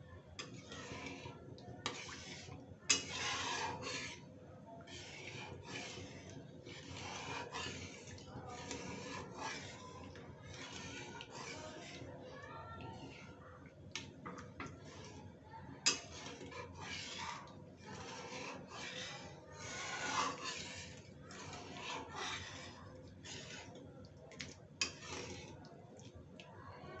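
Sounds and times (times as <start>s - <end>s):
metal spatula scraping a pan: 0.4s - 12.2s, 12.9s - 13.4s, 14.0s - 23.8s, 24.8s - 25.6s.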